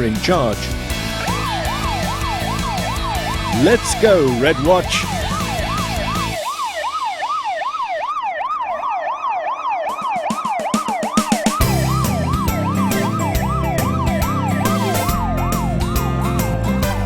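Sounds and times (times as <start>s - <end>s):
fire engine siren yelping: 1.0s - 16.6s.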